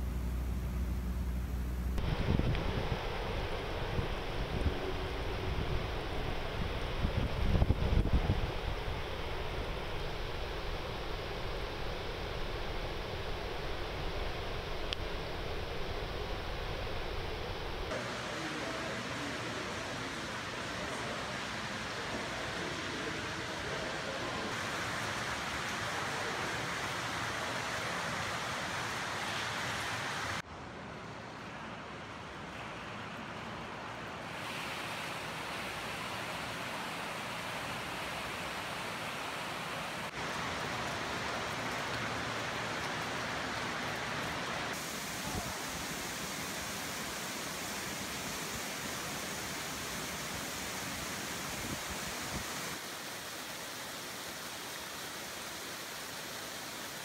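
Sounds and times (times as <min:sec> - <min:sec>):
water rushing: 0:02.0 - 0:57.0.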